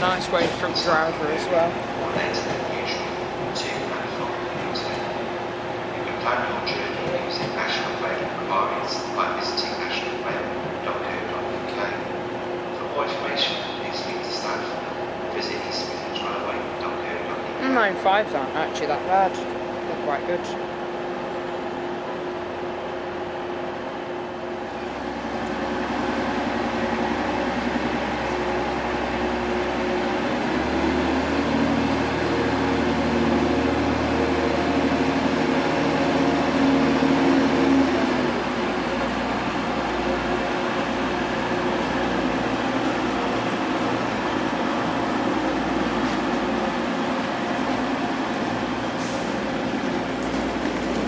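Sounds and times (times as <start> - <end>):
train engines humming: 0.0 - 51.0.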